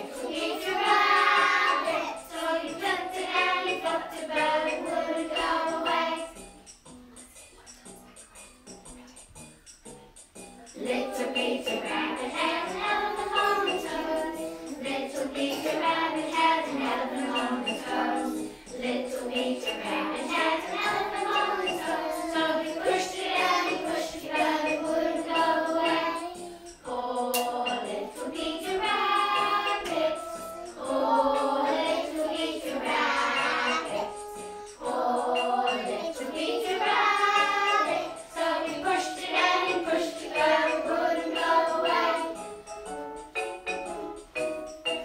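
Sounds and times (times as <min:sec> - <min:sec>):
young children singing: 0:00.0 - 0:09.4, 0:10.6 - 0:42.7.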